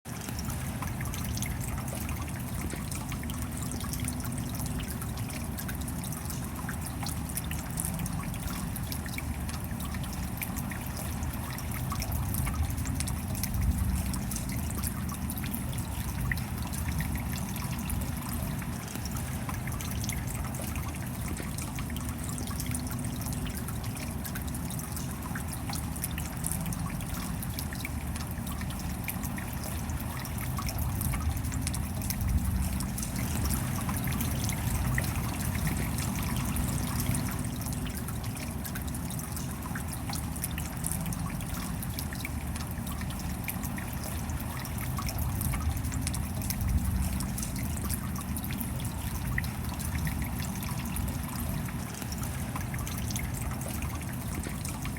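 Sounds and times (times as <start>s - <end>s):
water trickling and dripping: 0.0s - 54.9s
steady rain hiss: 0.1s - 54.9s.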